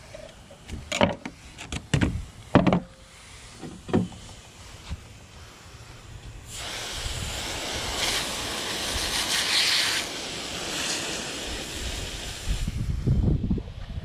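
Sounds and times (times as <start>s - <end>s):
hose spraying water on ground: 0.0s - 14.0s.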